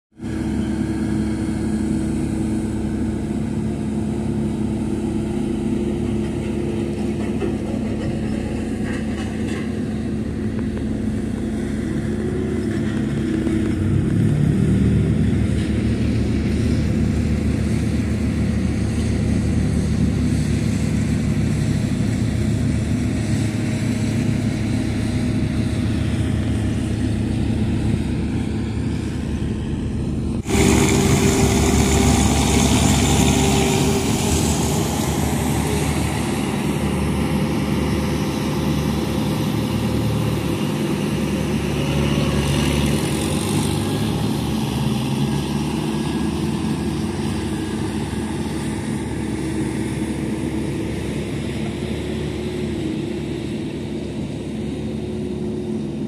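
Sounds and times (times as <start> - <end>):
deeper engine note: 0.1 - 56.0
road roller diesel engine running: 0.1 - 56.0.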